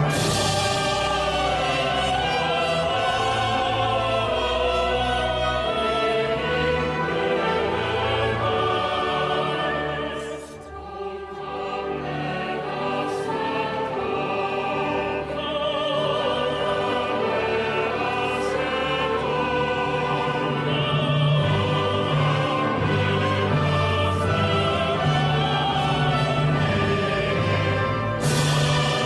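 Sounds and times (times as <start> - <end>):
operatic singing: 0.0 - 29.0
orchestral music: 0.0 - 29.0.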